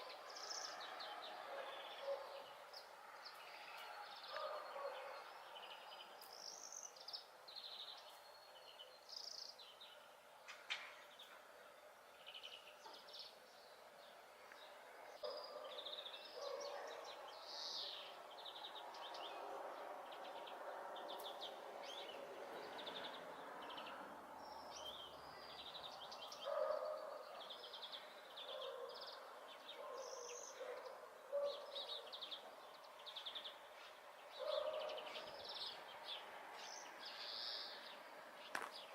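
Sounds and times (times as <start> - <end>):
faint background noise: 0.0 - 38.9.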